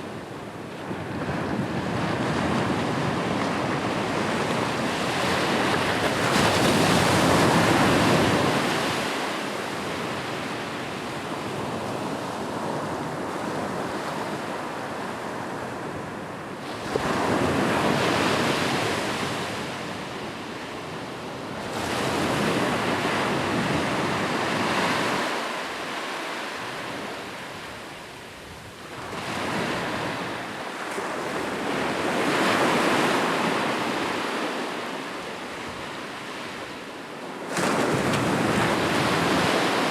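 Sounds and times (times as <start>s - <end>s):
ocean waves breaking on shore: 0.4s - 39.9s.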